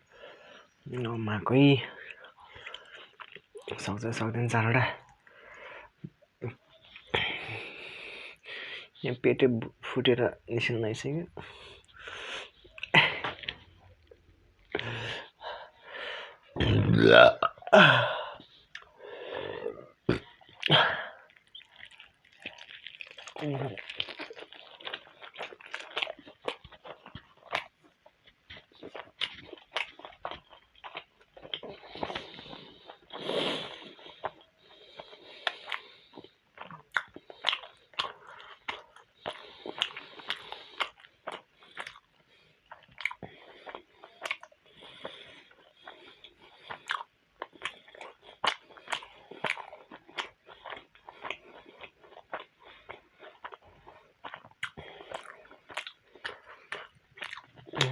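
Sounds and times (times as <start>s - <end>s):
chewing dumplings: 0.1s - 10.5s, 11.1s - 16.8s, 17.5s - 57.9s.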